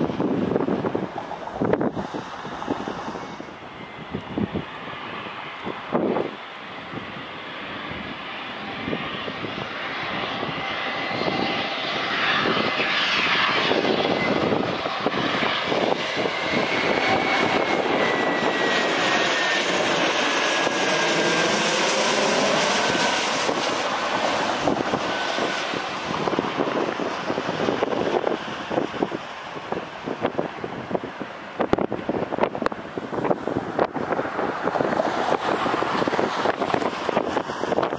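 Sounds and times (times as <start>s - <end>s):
high jet engine whine: 0.0s - 37.9s
jet passing overhead: 0.0s - 37.9s.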